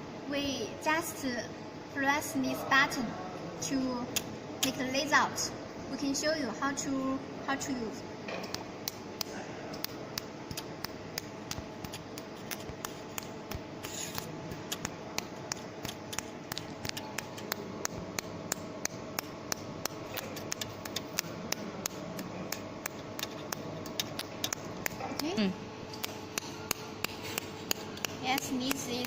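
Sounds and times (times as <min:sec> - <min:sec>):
laser machine hum: 0:01.1 - 0:29.0.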